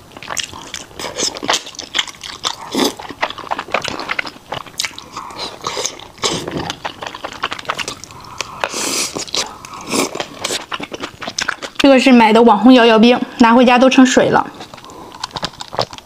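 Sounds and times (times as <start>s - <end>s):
person chewing: 0.0s - 12.1s, 14.6s - 16.0s.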